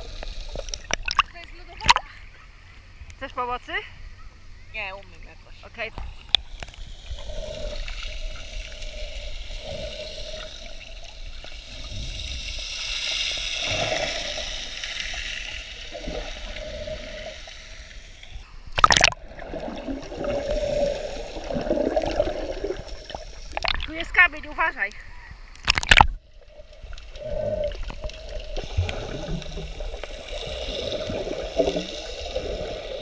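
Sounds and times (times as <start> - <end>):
sea water sloshing and gurgling: 0.0 - 2.0, 6.0 - 24.7, 25.3 - 33.0.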